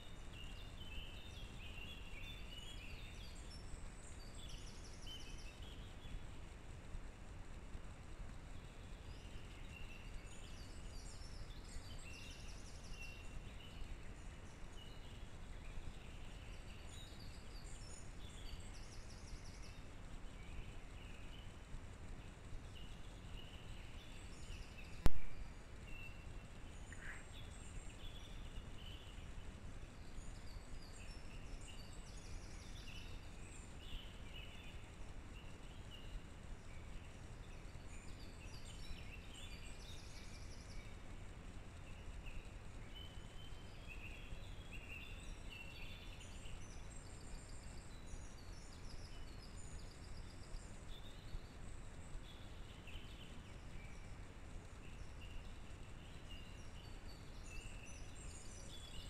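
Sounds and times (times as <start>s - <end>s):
small birds chirping: 0.0s - 59.0s
low background rumble: 0.1s - 59.0s.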